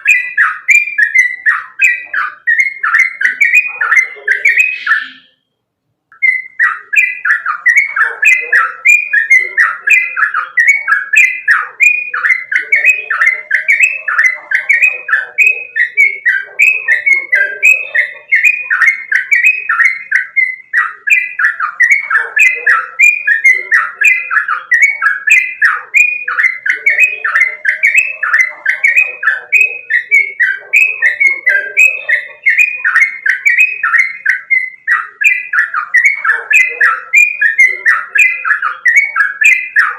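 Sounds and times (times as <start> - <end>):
bulbul singing chattering notes: 0.0 - 5.5, 6.1 - 39.9.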